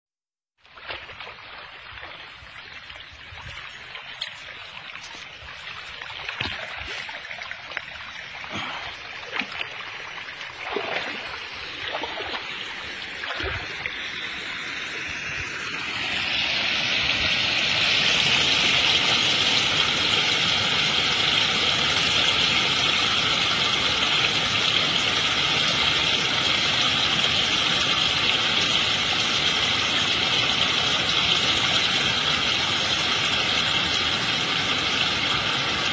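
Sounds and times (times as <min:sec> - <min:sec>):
water running in a trench: 0:00.6 - 0:35.9
water pouring into a pipe: 0:00.7 - 0:35.9.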